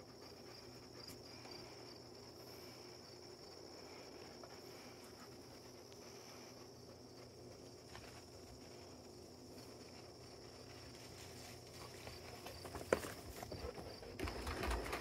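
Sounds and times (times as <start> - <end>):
steady high-pitched hum: 0.0 - 13.5.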